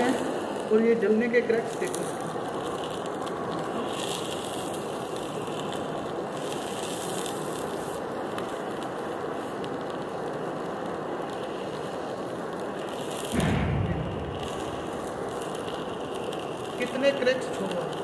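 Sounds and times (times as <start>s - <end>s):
gas blow torch hissing: 0.0s - 18.0s.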